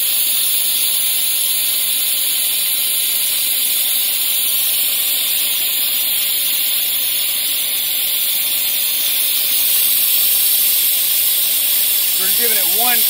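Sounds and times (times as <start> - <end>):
coolant spray hissing: 0.0 - 13.0.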